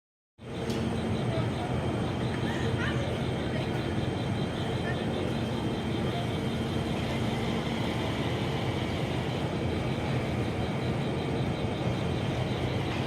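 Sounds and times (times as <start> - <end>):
train rumbling: 0.5 - 13.0.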